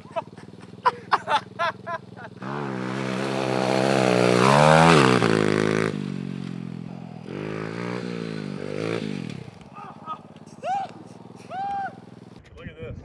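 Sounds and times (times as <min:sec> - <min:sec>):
dirt bike engine revving: 0:00.0 - 0:12.4.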